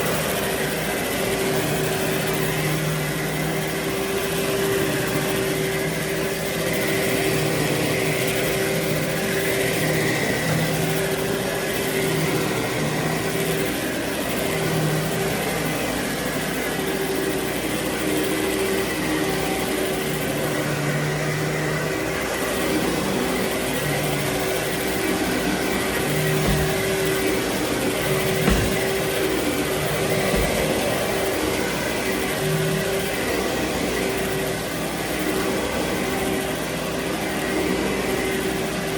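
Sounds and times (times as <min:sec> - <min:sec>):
vacuum cleaner running over carpet: 0:00.0 - 0:38.9.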